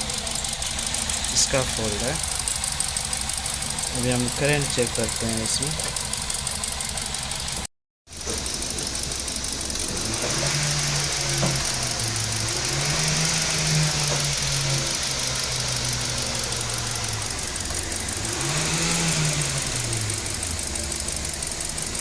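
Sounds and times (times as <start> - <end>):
car engine idling rough: 0.0 - 22.0.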